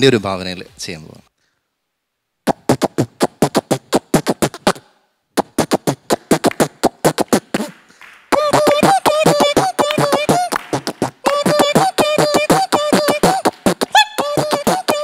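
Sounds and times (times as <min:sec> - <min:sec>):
man beatboxing: 0:02.4 - 0:15.0.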